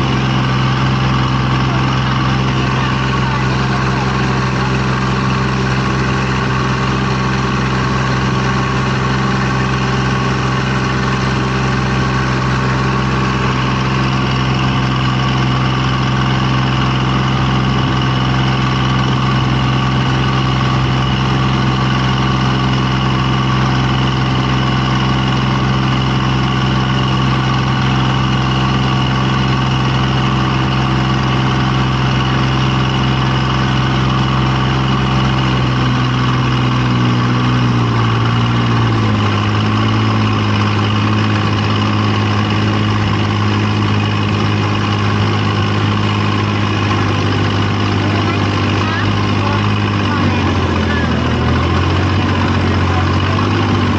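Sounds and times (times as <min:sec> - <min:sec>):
engine droning steadily: 0:00.0 - 0:53.9.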